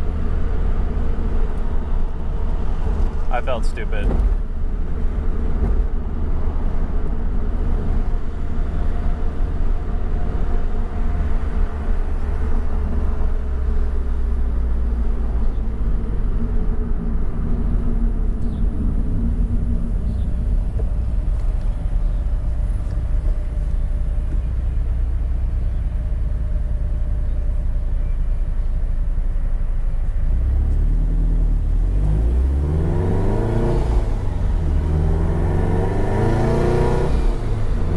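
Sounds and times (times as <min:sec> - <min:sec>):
road rumble: 0:00.0 - 0:37.9
sports car engine: 0:00.0 - 0:37.9.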